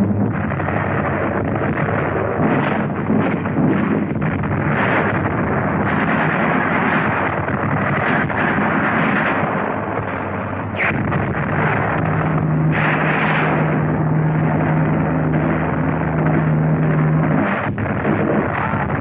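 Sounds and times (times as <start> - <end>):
artillery and gunfire: 0.0 - 19.0
explosions: 0.0 - 19.0
steady low hum: 0.0 - 19.0.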